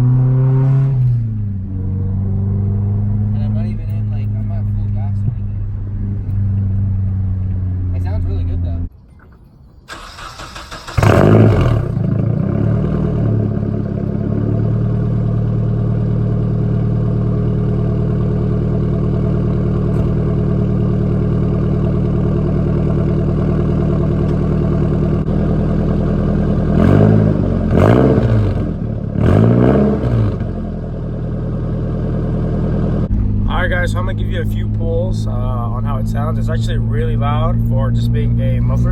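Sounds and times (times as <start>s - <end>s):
loud car engine idling and revving: 0.0s - 8.9s, 10.1s - 38.9s.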